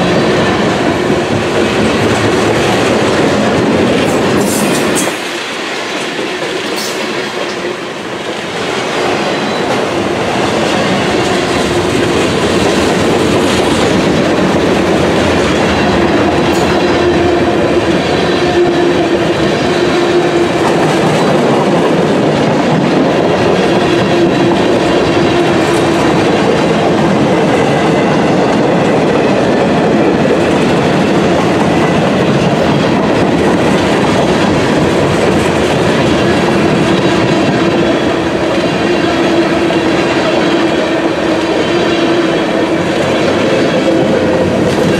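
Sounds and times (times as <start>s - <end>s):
steel wheels on rails: 0.0s - 44.9s.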